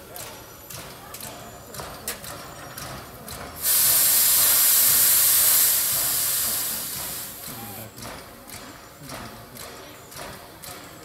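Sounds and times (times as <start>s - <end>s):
locomotive venting steam hiss: 0.2s - 11.0s.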